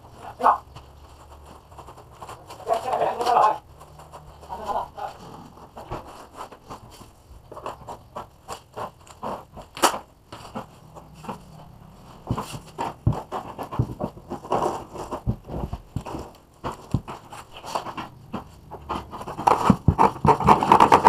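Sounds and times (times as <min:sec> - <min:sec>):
gloved hands handling cable: 0:00.0 - 0:21.0.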